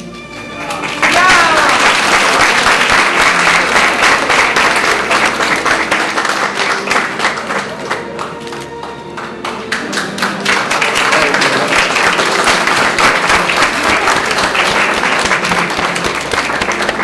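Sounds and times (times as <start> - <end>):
crowd applauding: 0.4 - 17.0.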